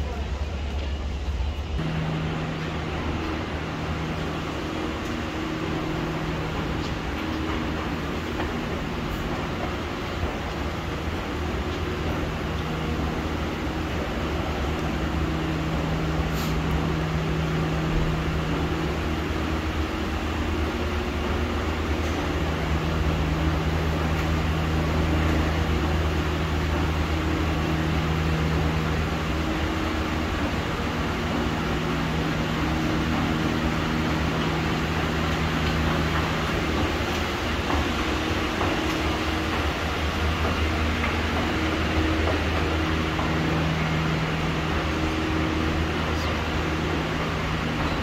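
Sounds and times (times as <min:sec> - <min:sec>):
escalator mechanical hum: 0:00.0 - 0:48.0.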